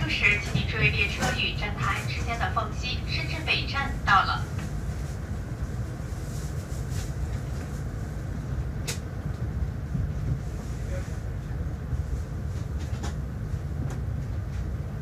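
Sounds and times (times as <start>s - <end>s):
train rumbling over tracks: 0.0s - 15.0s.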